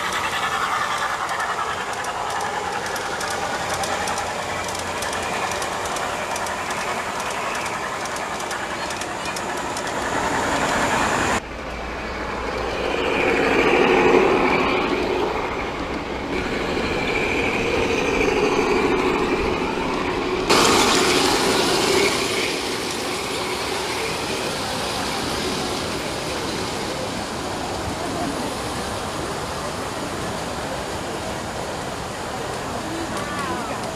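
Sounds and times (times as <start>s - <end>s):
model train wheels on rails: 0.0s - 33.9s
train motor hum: 0.0s - 33.9s.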